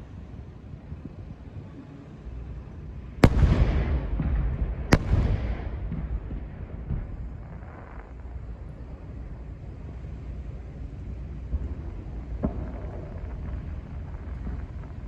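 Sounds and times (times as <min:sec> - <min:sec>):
fireworks bursting with crackle: 0:02.3 - 0:15.0.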